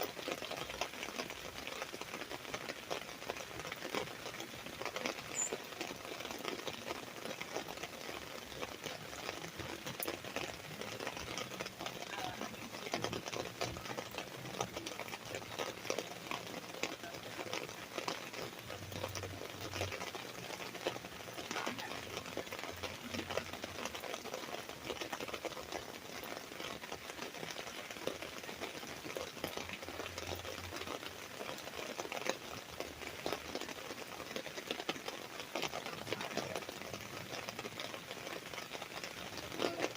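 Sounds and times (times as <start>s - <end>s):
rain on an umbrella: 0.0s - 39.9s.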